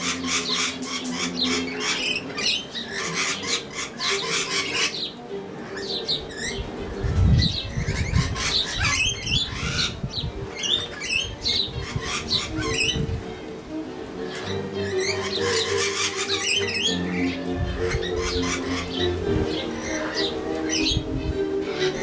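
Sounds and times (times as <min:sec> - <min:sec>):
birds chirping: 0:00.0 - 0:22.0
birds squawking: 0:00.0 - 0:22.0.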